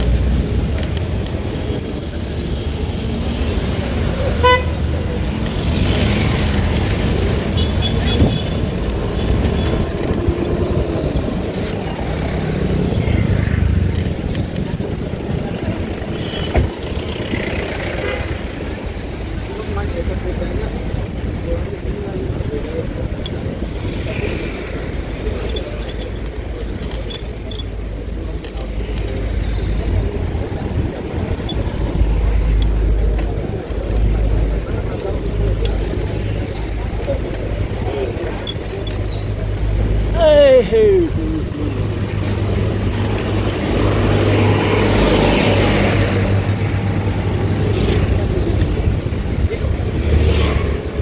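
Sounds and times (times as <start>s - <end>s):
traffic engines and tyres rumbling: 0.0s - 51.0s.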